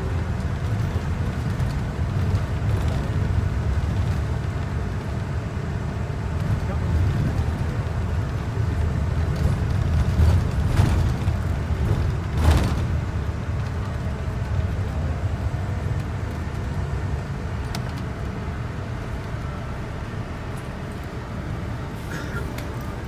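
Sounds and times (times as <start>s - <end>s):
car driving along a road: 0.0s - 23.0s.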